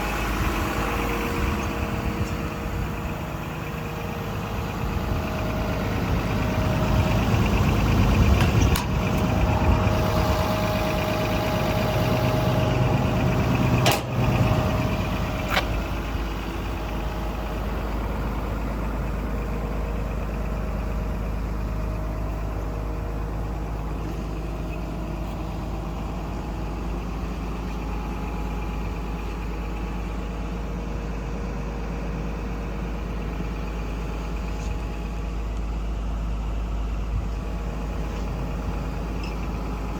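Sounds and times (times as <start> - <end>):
excavator diesel engine running: 0.0 - 39.9
steady hydraulic whine: 0.0 - 39.9.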